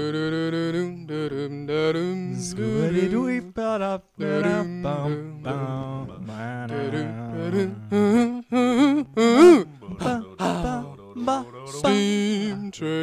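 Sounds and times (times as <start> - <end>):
male voices singing harmony: 0.0 - 13.0.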